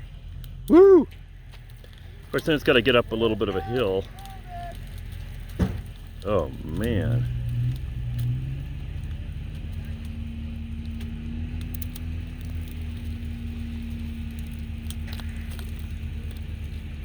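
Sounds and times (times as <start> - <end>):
truck engines humming: 0.0 - 17.0.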